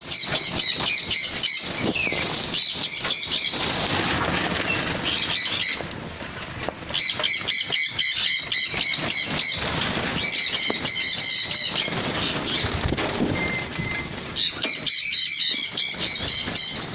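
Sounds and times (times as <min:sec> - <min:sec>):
soft fluttering and rustling: 0:00.1 - 0:16.9.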